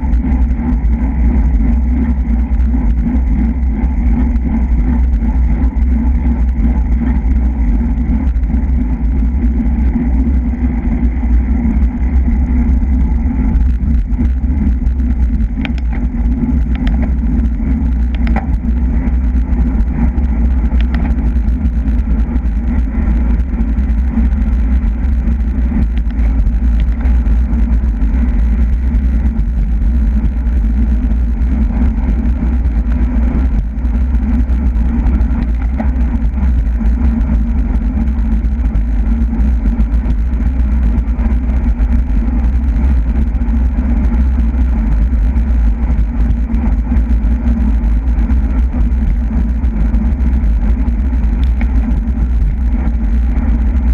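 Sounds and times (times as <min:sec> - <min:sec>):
wind rumble on microphone: 0:00.0 - 0:53.9.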